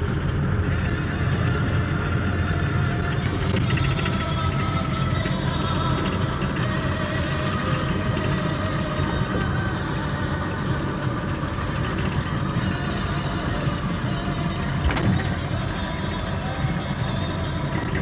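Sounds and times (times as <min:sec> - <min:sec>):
engine and road noise drone: 0:00.0 - 0:18.0.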